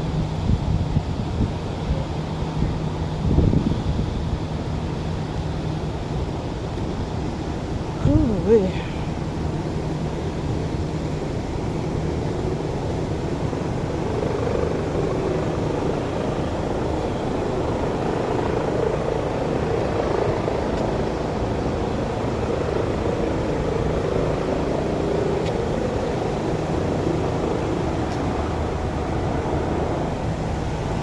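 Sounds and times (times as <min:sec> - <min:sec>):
helicopter rotor and engine: 0:00.0 - 0:31.0.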